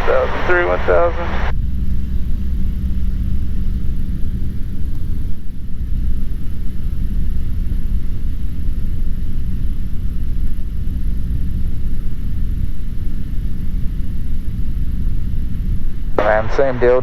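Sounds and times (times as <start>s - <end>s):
light aircraft engine droning: 0.0s - 17.0s.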